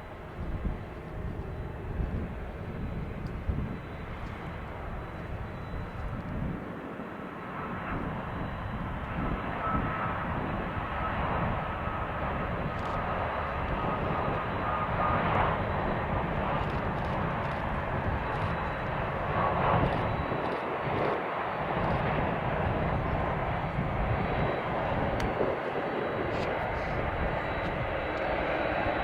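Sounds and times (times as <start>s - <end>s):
high engine whine: 0.0s - 29.0s
jet engines rushing: 0.0s - 29.0s.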